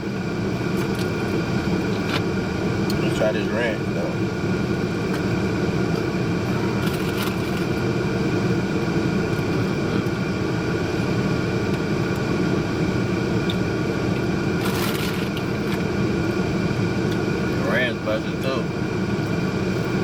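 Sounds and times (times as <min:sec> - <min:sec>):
machinery drone: 0:00.0 - 0:20.0.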